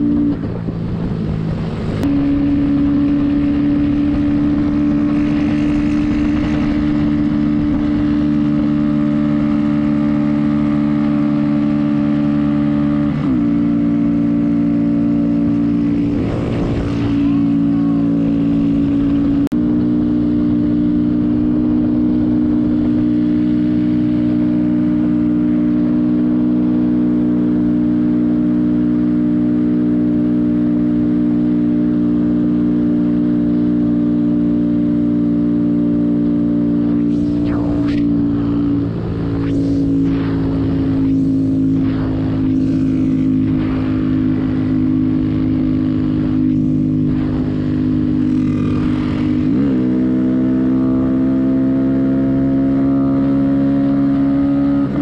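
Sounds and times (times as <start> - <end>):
passing mini bike engine: 0.0 - 27.9, 35.4 - 55.0.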